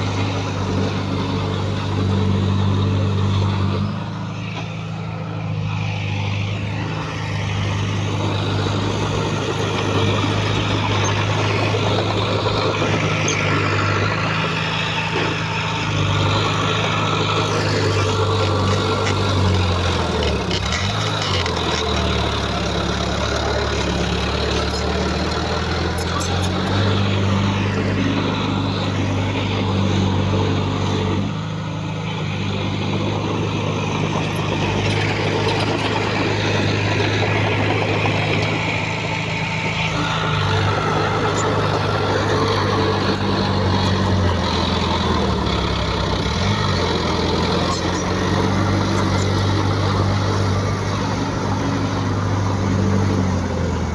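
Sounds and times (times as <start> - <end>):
heavy diesel machinery running: 0.0 - 53.9.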